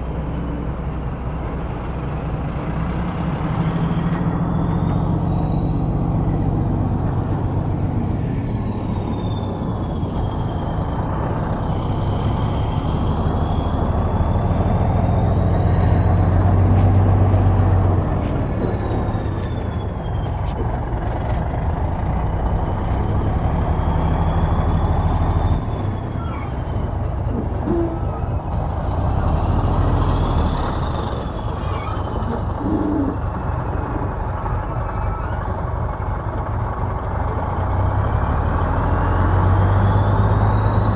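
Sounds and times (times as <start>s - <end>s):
bulldozer diesel engine working: 0.0s - 40.9s.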